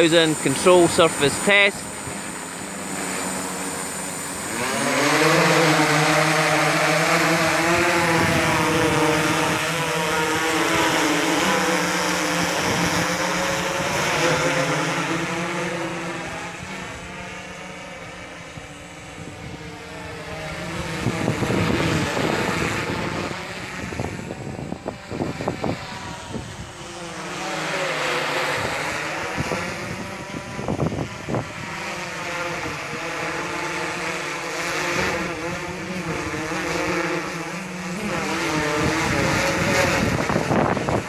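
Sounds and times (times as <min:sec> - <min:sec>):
drone propellers whirring: 0:00.0 - 0:41.0.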